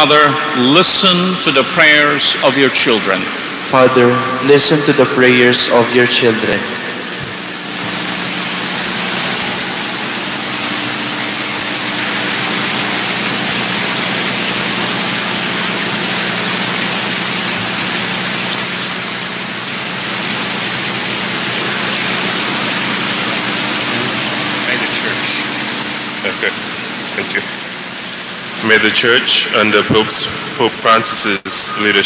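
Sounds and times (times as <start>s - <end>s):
faint high whine: 0.0s - 32.0s
steady hiss: 0.0s - 32.0s.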